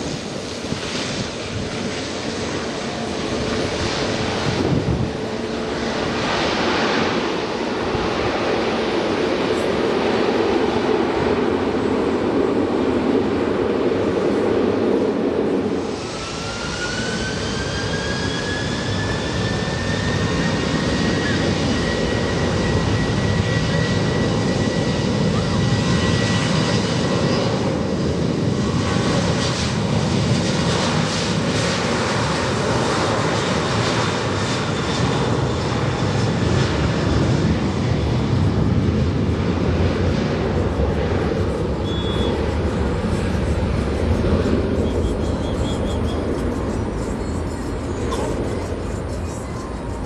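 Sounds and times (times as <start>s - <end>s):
jet engines with turbine whine: 0.0s - 50.0s.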